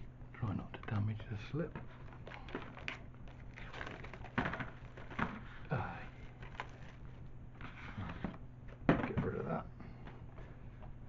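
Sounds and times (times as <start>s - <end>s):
plastic case and cardboard rustling: 0.6s - 11.0s.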